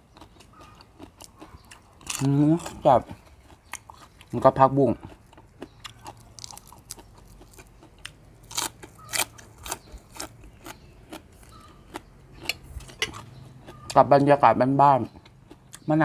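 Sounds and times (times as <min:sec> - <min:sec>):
chewing crunchy vegetables: 0:00.0 - 0:16.0.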